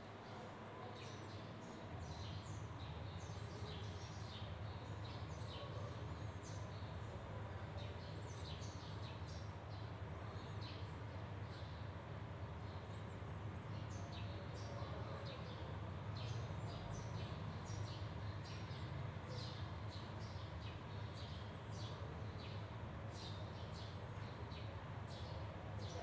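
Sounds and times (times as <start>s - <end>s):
small birds chirping: 0.2s - 26.0s.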